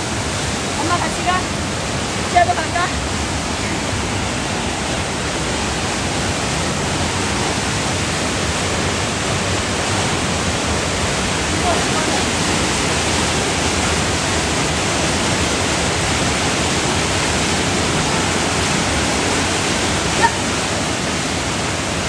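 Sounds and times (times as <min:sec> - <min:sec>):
rushing water roar: 0:00.0 - 0:22.0.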